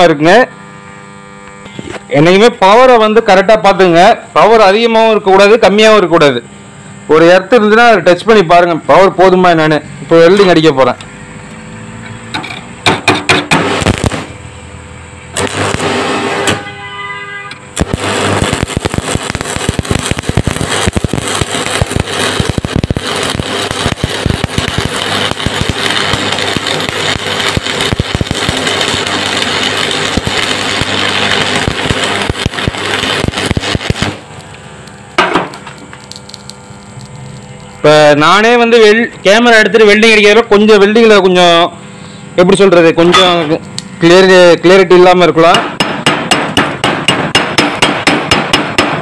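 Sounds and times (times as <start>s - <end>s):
arc welding crackle and sizzle: 0.0s - 49.0s.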